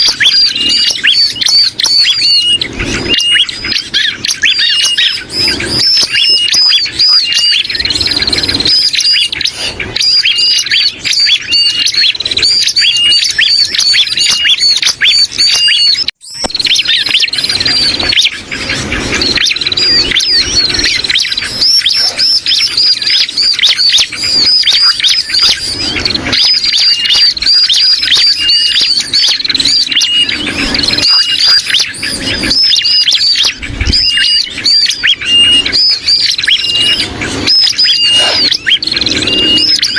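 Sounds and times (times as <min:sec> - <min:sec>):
bird calls: 0:00.0 - 0:39.9
rapid high chirping: 0:00.0 - 0:39.9.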